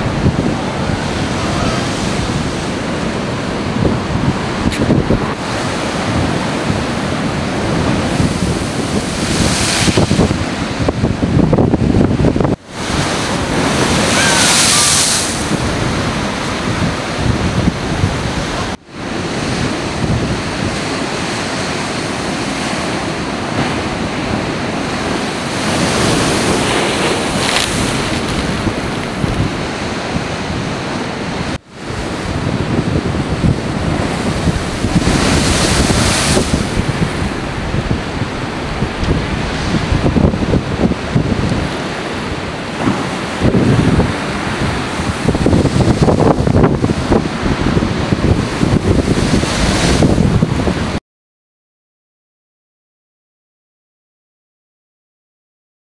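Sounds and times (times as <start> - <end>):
storm waves crashing: 0.0 - 51.0
wind buffeting microphone: 0.0 - 51.0.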